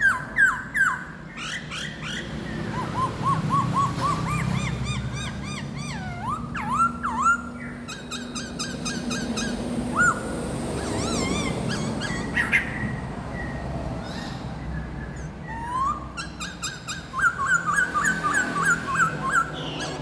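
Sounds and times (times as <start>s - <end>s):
songbird singing whistled notes: 0.0s - 20.0s.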